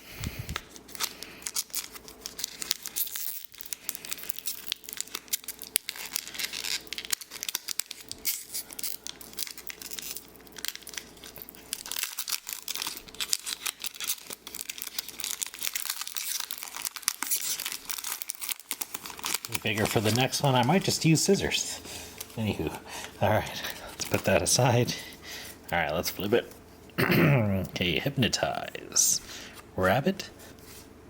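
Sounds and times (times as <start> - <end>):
plastic packaging being torn open: 0.4 - 26.4.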